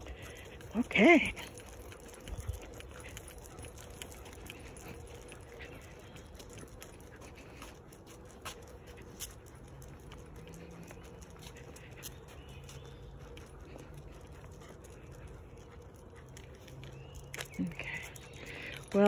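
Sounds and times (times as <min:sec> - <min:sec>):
faint footsteps on asphalt: 0:00.0 - 0:19.0.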